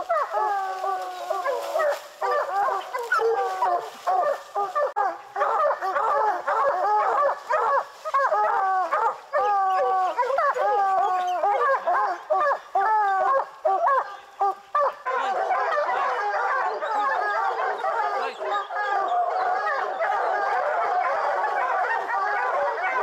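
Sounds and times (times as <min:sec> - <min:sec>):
hounds baying and barking: 0:00.0 - 0:23.0.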